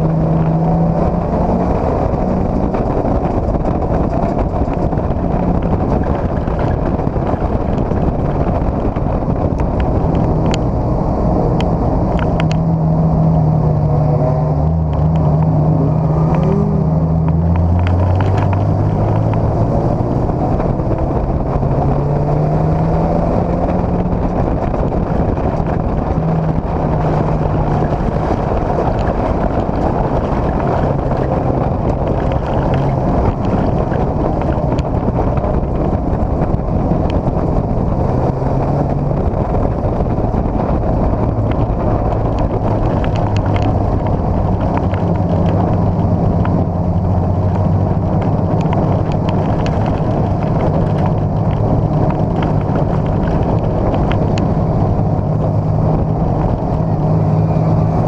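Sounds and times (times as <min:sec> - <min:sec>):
race car engine revving: 0:00.0 - 0:58.0
wind buffeting microphone: 0:00.0 - 0:58.0.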